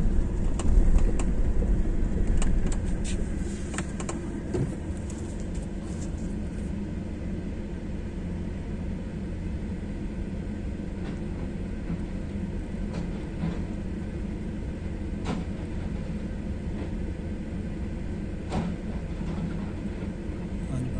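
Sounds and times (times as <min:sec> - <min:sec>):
car engine rumble from inside: 0:00.0 - 0:20.9.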